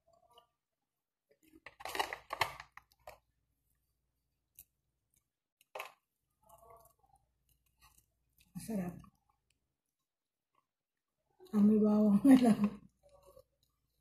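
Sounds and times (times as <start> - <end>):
faint eating noises: 0.0 - 14.0.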